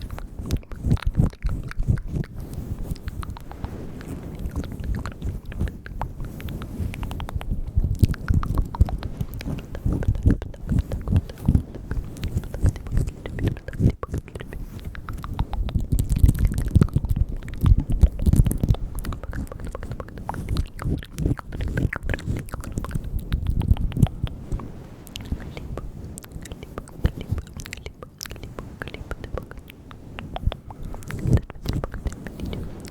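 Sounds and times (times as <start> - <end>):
wet mouth clicks and smacks: 0.0 - 32.9
low rumbling: 2.0 - 32.9.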